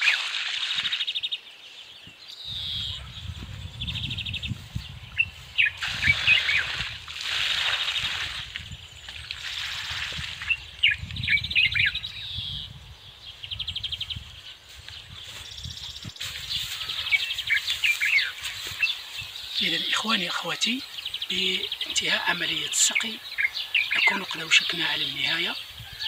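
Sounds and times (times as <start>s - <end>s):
small birds singing: 0.0s - 26.0s.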